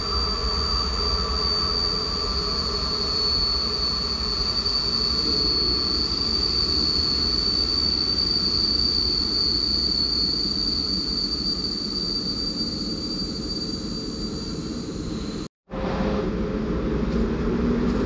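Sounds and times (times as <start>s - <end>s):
train brakes squealing: 0.0s - 16.4s
low rumble of train wheels: 0.0s - 18.0s.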